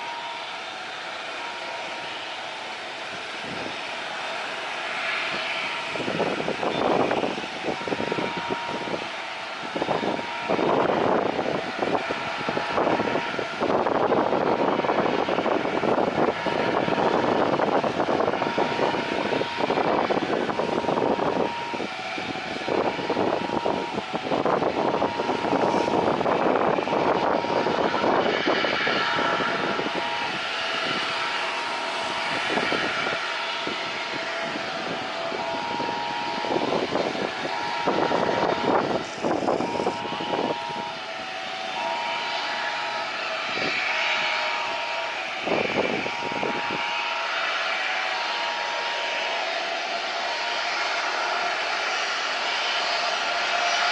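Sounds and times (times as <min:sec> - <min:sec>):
jet engines whining: 0:00.0 - 0:53.9
wind buffeting microphone: 0:00.0 - 0:53.9.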